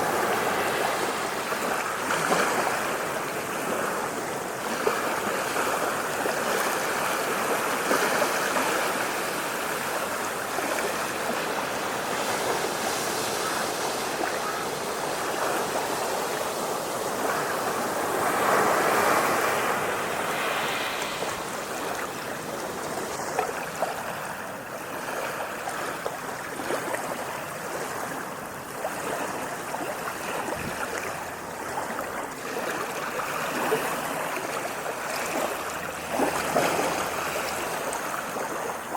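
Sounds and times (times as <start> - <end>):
ocean waves washing onto shore: 0.0 - 38.9.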